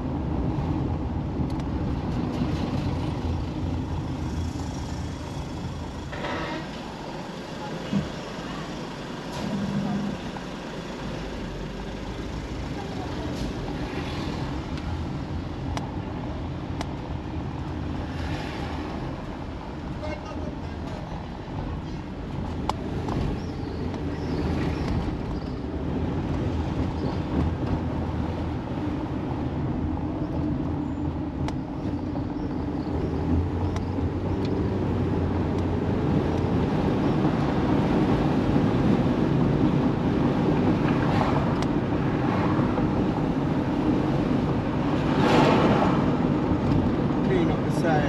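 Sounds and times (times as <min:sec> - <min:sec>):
car engine and road noise: 0:00.0 - 0:48.0.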